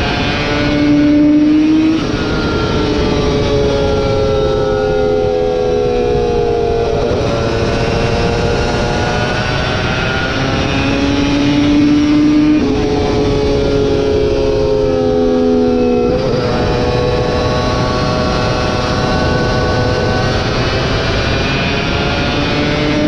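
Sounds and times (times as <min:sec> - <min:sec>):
racing motorcycle engine revving: 0:00.0 - 0:23.0.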